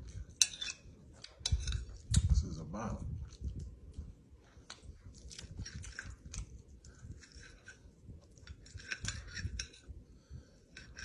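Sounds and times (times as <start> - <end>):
person chewing food: 0.0 - 2.3, 3.1 - 11.0.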